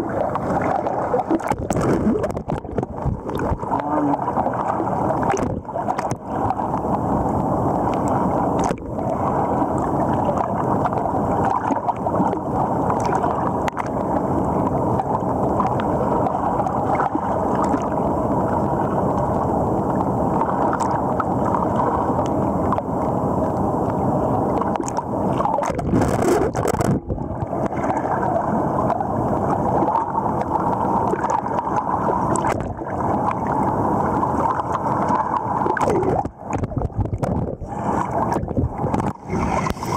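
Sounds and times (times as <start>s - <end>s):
river water rushing and splashing: 0.0s - 39.9s.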